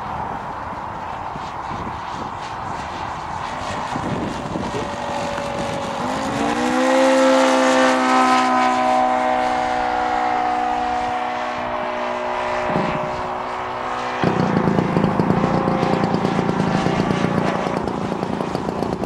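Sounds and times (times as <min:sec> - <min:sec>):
model plane radial engine: 0:00.0 - 0:19.0.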